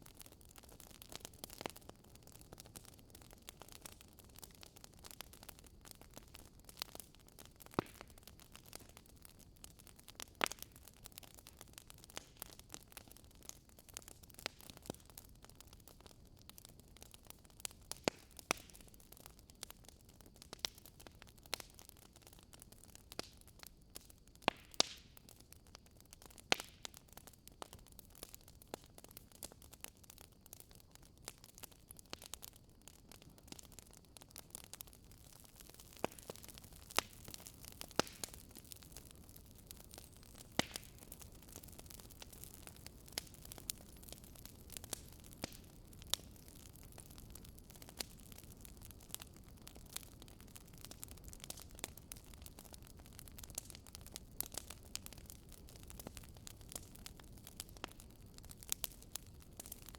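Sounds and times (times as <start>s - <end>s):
faint steady hiss: 0.0s - 59.9s
wood fire crackling: 0.0s - 59.9s.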